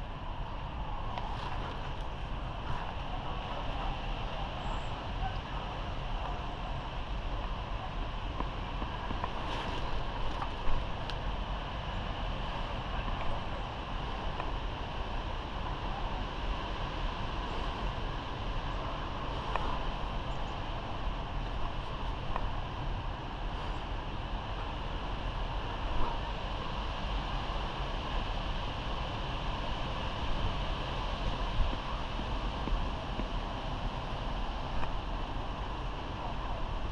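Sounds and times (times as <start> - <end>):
wind noise on microphone: 0.0 - 36.9.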